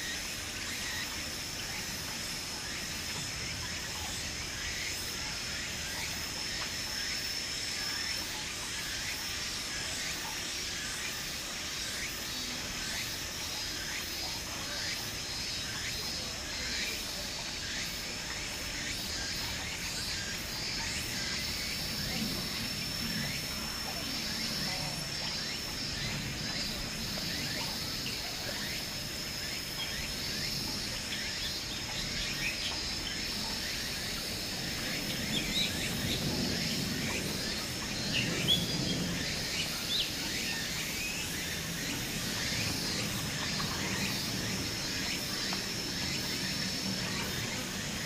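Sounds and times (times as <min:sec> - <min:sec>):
high-pitched insect drone: 0:00.0 - 0:48.0.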